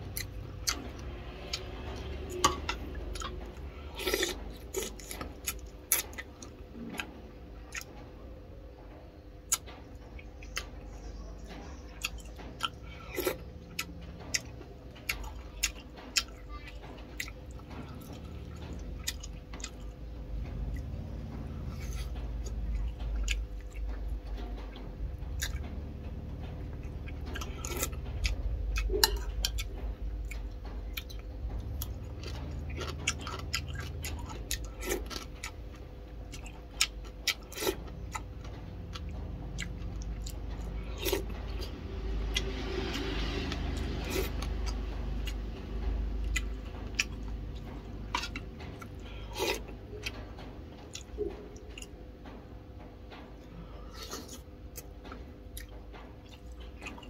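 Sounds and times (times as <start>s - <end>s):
person chewing: 0.0s - 7.1s, 7.7s - 8.0s, 11.8s - 20.0s, 20.7s - 24.2s, 25.4s - 25.6s, 26.6s - 45.5s, 46.2s - 50.2s, 50.8s - 52.0s, 53.4s - 57.0s
electric fan humming: 0.0s - 57.0s.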